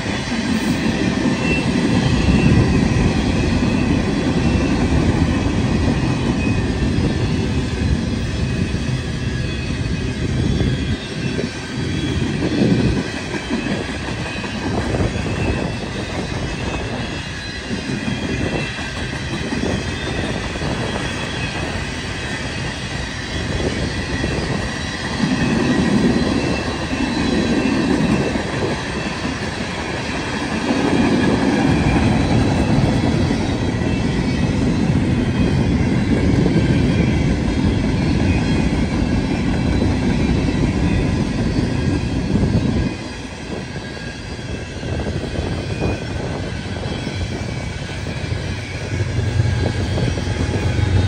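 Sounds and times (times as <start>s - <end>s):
freight train wheels rumbling: 0.0s - 51.0s
faint high squeal: 0.6s - 51.0s.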